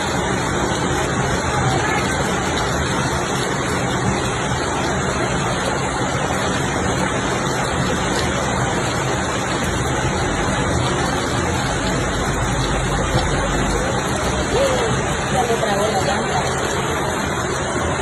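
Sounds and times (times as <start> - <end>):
floodwater and rain rushing: 0.0 - 18.0.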